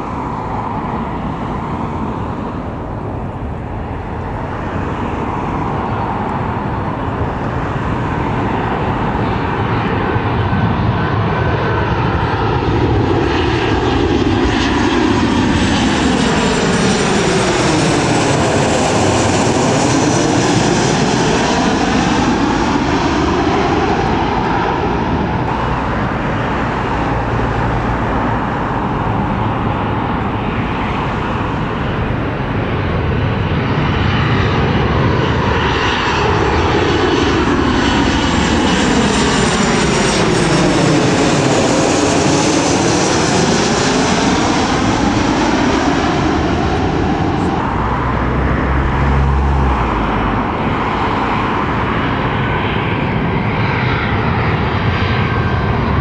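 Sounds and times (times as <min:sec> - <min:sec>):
airliner flying overhead: 0:00.0 - 0:56.0.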